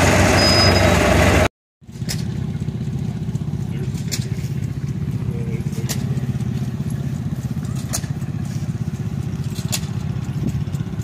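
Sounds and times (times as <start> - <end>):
engine running with low pulsing: 0.0 - 11.0.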